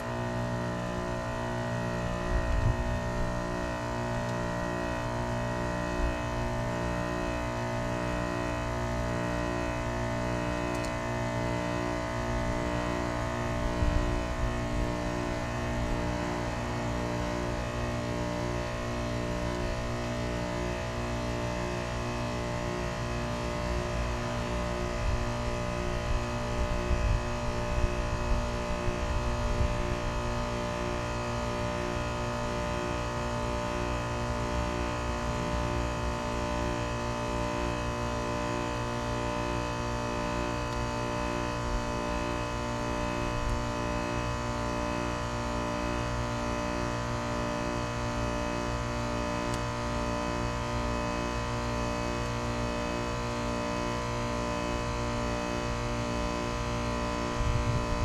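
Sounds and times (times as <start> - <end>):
heat pump humming: 0.0 - 58.0.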